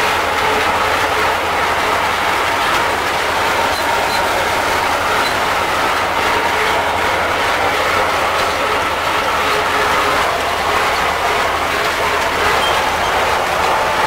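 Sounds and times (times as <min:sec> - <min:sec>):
rotary mower rattling: 0:00.0 - 0:14.0
tractor diesel engine running: 0:00.0 - 0:14.0.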